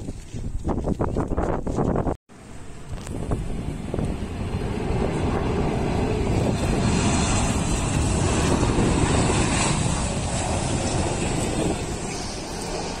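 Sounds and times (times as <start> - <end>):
jet engines roaring overhead: 2.3 - 13.0.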